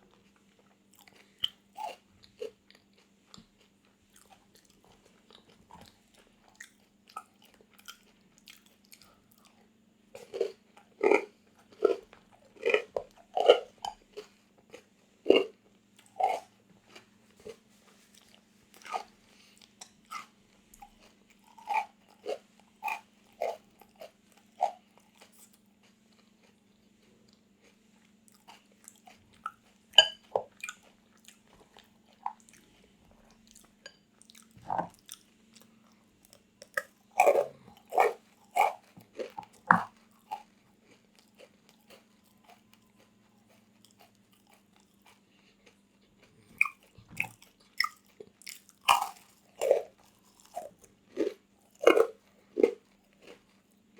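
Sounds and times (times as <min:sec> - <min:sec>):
faint low hum: 0:00.0 - 0:53.9
crunchy snack chewing: 0:10.2 - 0:53.9.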